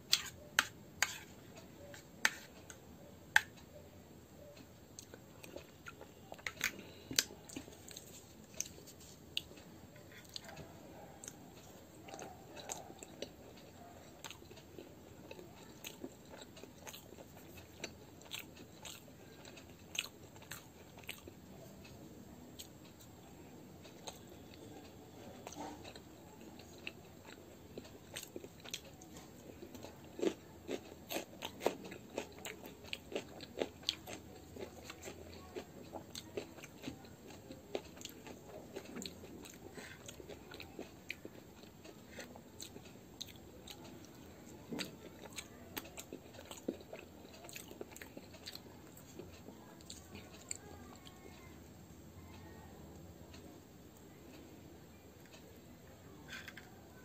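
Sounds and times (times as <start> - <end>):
person chewing and crunching food: 0.0 - 3.8, 4.5 - 22.0, 23.8 - 51.6, 55.2 - 55.6.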